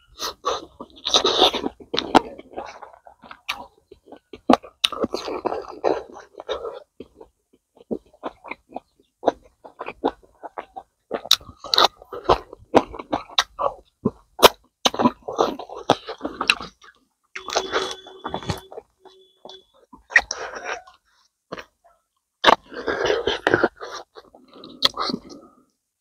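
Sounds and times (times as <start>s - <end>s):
chewing and crunching: 0.0s - 25.8s.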